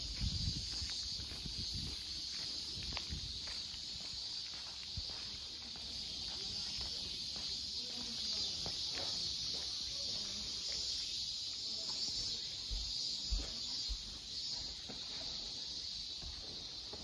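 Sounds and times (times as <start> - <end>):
cicada chorus buzzing: 0.0 - 17.0.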